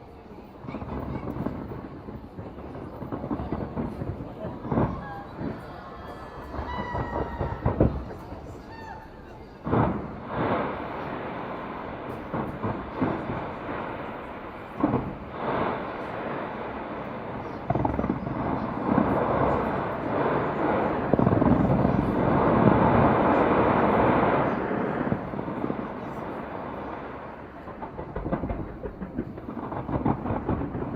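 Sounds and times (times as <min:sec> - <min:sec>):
fireworks bangs: 0:00.0 - 0:30.9
fireworks bursts and crackling: 0:00.0 - 0:30.9.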